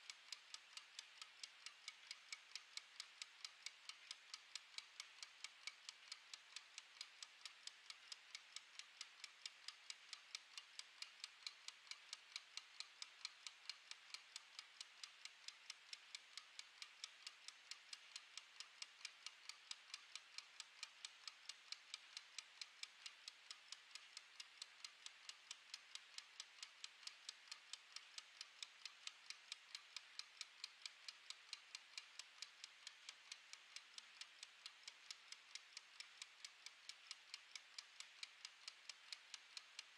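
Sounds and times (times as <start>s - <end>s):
wind-up kitchen timer ticking: 0.0s - 39.9s.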